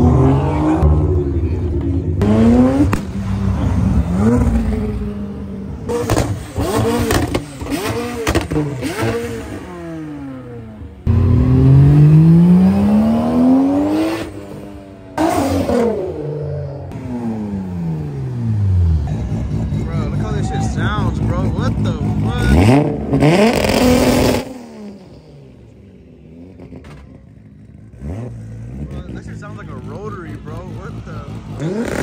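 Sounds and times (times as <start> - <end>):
car engines accelerating hard: 0.0 - 32.0.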